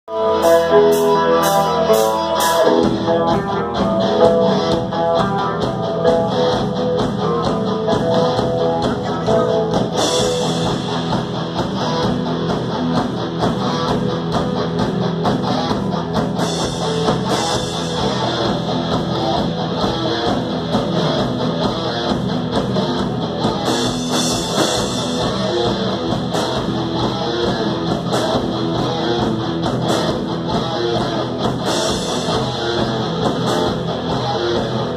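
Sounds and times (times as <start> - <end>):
electric guitars: 0.0 - 34.9
live rock band playing: 0.0 - 34.9
drum kit beat: 0.1 - 34.9.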